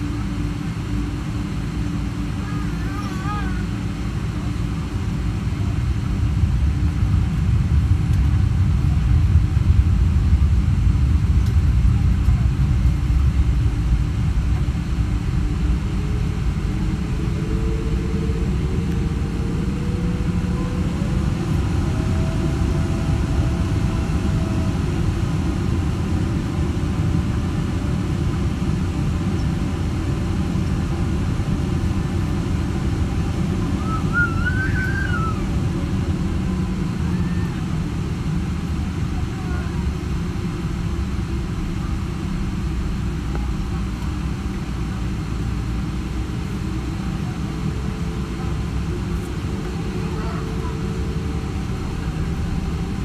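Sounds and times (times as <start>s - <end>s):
faint rising whine: 0.0s - 53.0s
low engine rumble in cabin: 0.0s - 53.0s.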